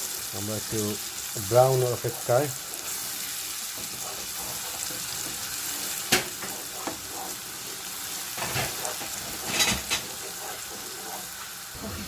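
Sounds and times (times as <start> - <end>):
onions sizzling in oil: 0.0 - 12.0
spoon scraping pan: 0.0 - 12.0.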